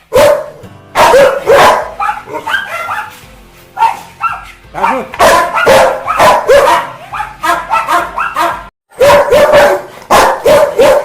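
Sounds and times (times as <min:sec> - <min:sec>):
dog barking angrily: 0:00.1 - 0:03.2, 0:03.8 - 0:11.0.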